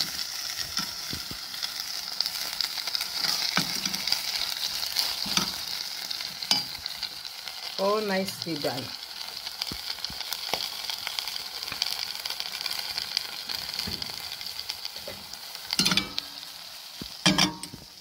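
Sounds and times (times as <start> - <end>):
sauce simmering and sizzling: 0.0 - 18.0.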